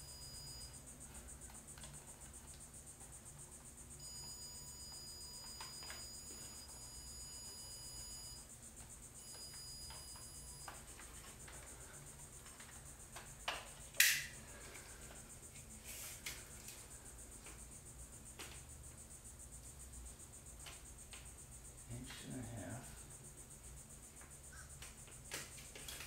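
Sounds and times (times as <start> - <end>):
faint high-pitched whine: 0.0 - 26.0.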